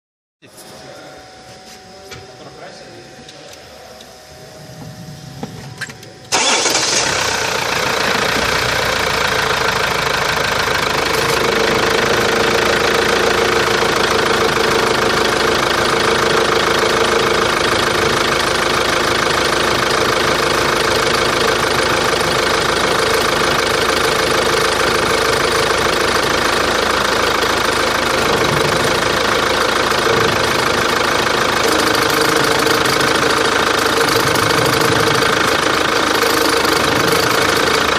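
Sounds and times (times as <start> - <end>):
car engine starting and idling: 3.3 - 37.9.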